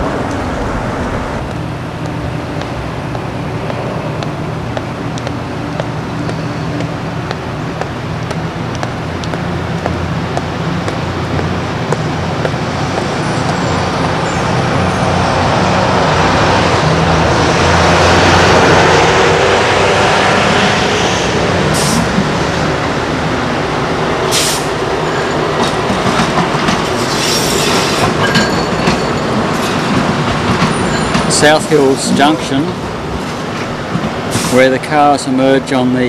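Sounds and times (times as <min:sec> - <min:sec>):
wheels screeching on rails: 0:00.0 - 0:34.8.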